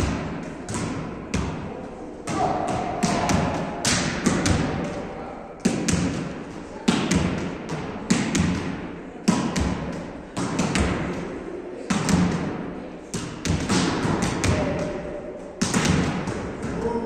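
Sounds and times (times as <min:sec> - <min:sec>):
volleyball hits echoing: 0:00.0 - 0:17.0.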